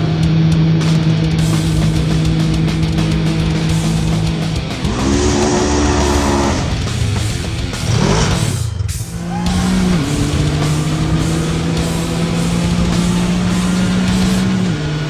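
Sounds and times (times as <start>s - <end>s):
guitar holding long notes: 0.0s - 15.0s
heavy rock music: 0.0s - 15.0s.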